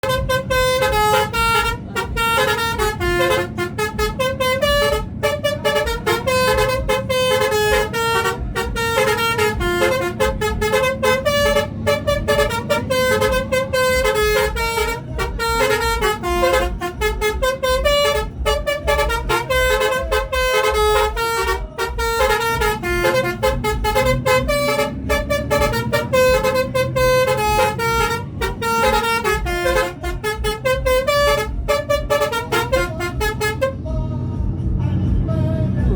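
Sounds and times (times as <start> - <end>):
multi-tone bus horn melody: 0.0 - 35.9
rhythmic low pulsing: 0.0 - 35.9.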